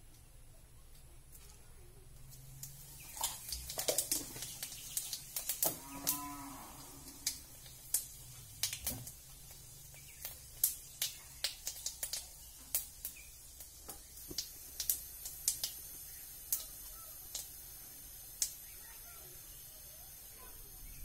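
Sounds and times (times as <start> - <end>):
spices popping in hot oil: 2.1 - 21.0.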